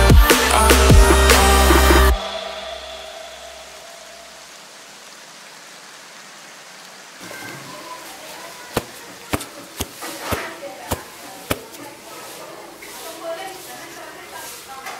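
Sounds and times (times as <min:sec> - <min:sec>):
faint steady hiss: 0:01.6 - 0:14.9.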